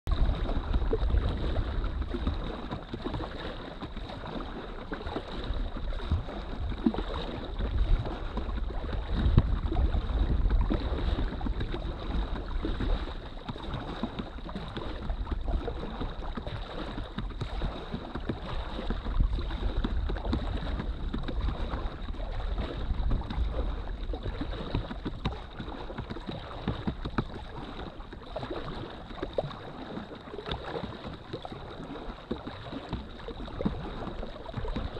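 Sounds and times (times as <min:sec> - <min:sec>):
water splashing around kayak: 0:00.0 - 0:34.9
wind rumbling on microphone: 0:00.1 - 0:34.9.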